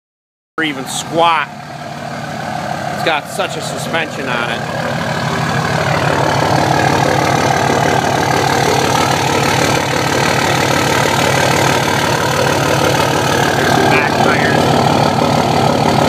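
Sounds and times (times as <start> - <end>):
diesel engine idling: 0.6 - 16.0.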